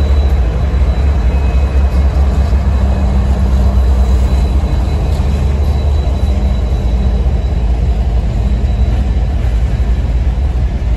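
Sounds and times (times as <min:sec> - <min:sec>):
freight train wheels rumbling: 0:00.0 - 0:10.9.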